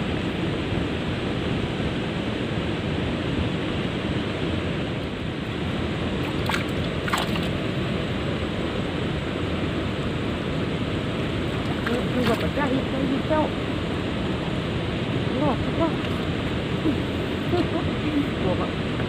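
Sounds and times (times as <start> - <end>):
water rushing over a weir: 0.5 - 19.0.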